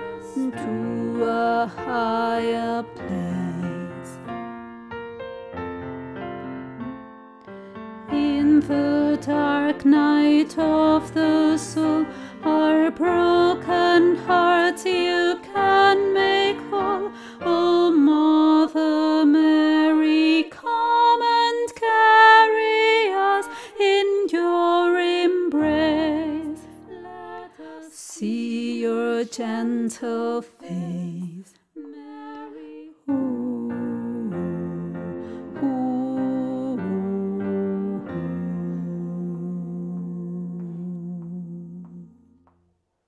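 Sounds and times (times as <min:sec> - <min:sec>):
choir singing slow melody: 0:00.0 - 0:04.3, 0:08.1 - 0:42.1.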